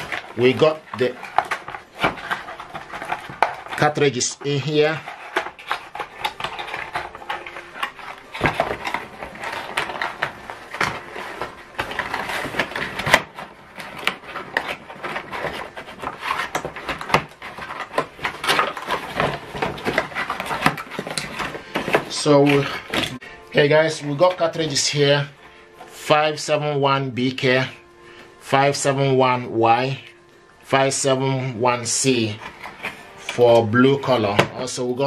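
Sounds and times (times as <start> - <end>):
cardboard rustling and scraping: 0.0 - 35.0.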